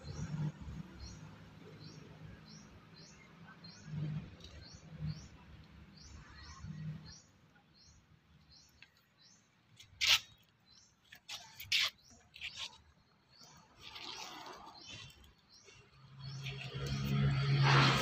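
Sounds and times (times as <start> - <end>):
small bird chirping: 0.0 - 17.7.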